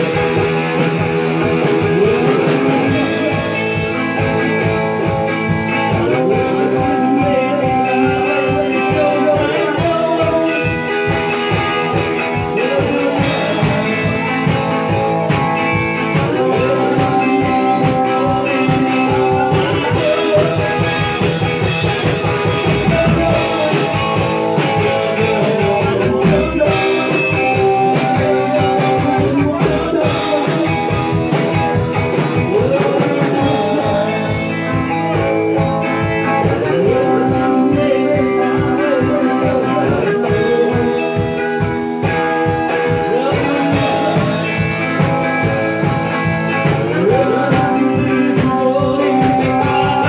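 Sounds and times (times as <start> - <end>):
drum kit beat: 0.0 - 50.0
electric guitar: 0.0 - 50.0.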